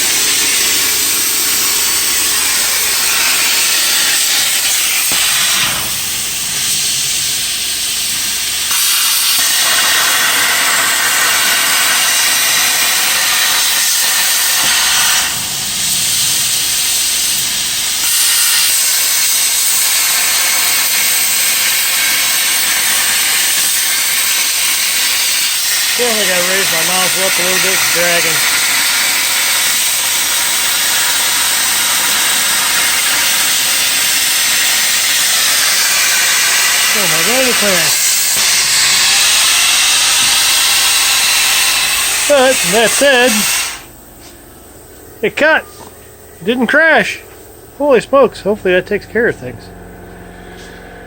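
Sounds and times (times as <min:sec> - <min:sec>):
plasma cutter hissing: 0:00.0 - 0:45.6.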